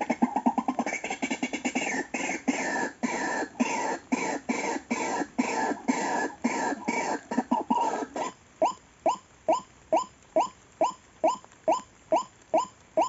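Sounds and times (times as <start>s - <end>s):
bird harsh croaking calls: 0.0s - 12.7s.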